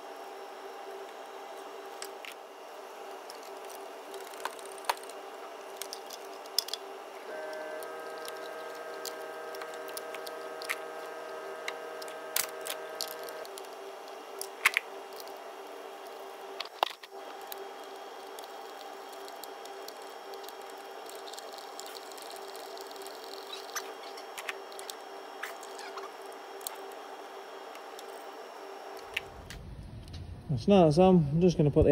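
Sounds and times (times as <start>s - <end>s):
steady hum: 0.0s - 31.9s.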